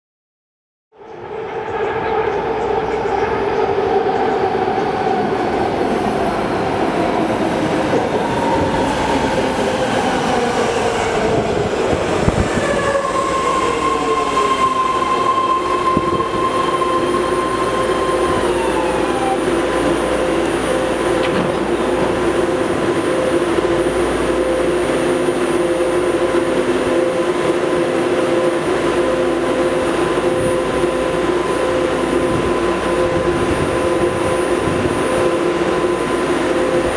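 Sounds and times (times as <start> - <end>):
train braking to a stop: 1.0 - 36.9
train equipment hum and whine: 1.0 - 36.9.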